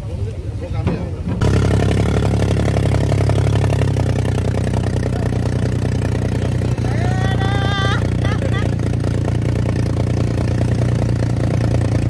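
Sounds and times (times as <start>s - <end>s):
off-road vehicle engine running: 1.4s - 12.0s.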